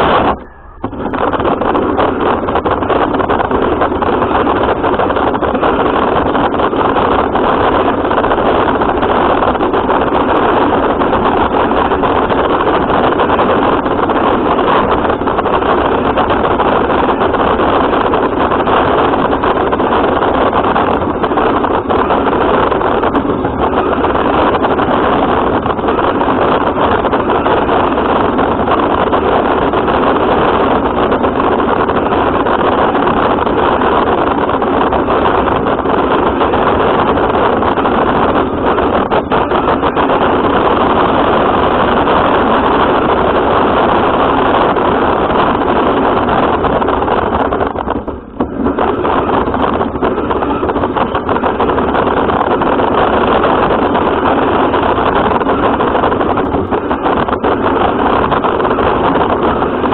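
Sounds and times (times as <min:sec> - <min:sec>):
radio-controlled car driving: 0:00.0 - 0:59.9.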